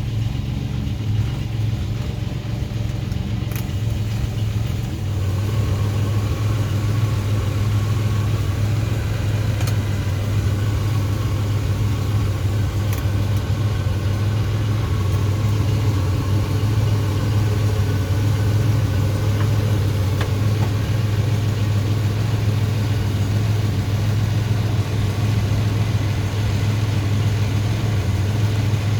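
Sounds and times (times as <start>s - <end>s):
car engine idling: 0.0s - 28.9s
engine knocking: 0.0s - 28.9s.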